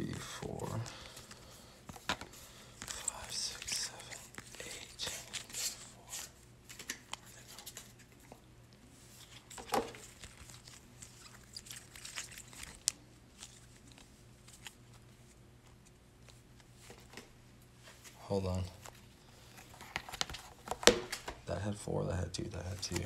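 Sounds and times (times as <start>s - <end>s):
trading cards clicking and rustling: 0.0s - 8.4s, 9.1s - 17.4s, 18.0s - 21.5s, 22.3s - 23.0s.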